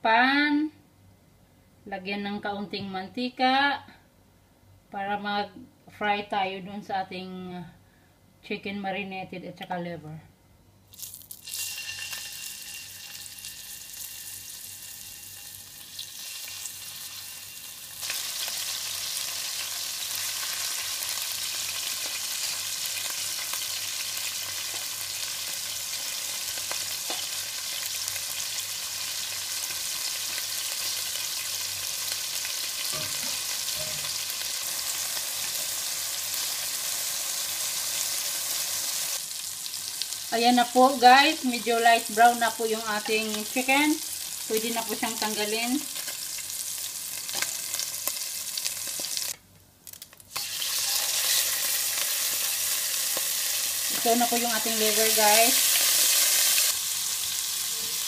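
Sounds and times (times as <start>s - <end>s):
chicken sizzling in hot oil: 10.9s - 58.0s.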